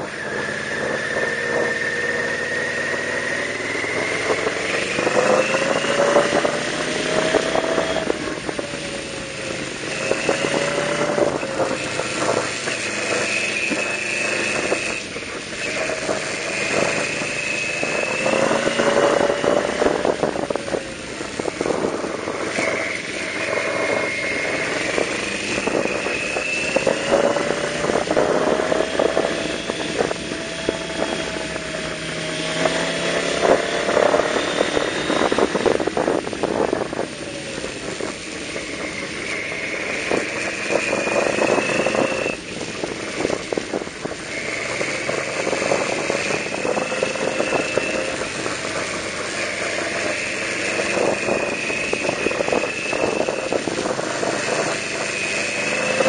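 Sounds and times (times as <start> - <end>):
motorcycle engine revving: 0.0 - 56.0
wind on microphone: 0.0 - 56.0.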